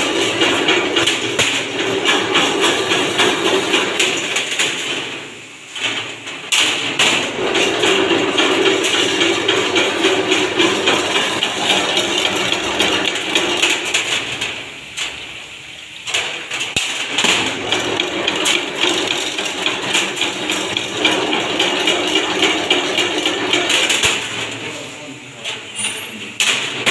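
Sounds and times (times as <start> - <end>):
fence machine rattling clatter: 0.0 - 15.2, 16.1 - 25.6.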